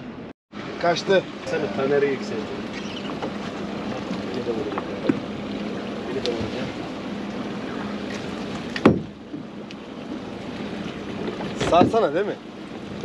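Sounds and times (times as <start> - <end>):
boat engine idling: 0.6 - 13.0.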